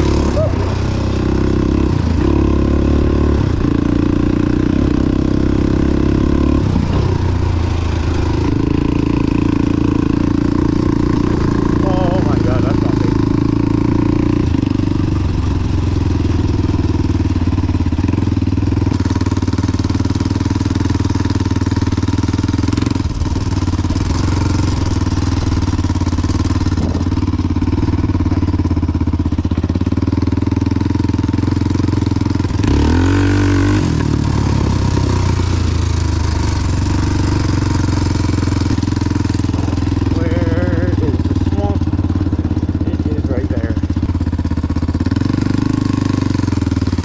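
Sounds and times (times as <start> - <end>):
quad engine running: 0.0 - 47.0.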